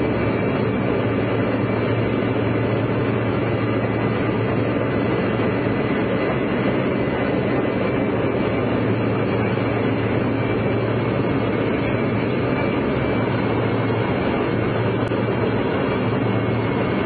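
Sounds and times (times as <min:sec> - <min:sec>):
airliner cabin engine roar: 0:00.0 - 0:17.0
low hum: 0:00.0 - 0:17.0.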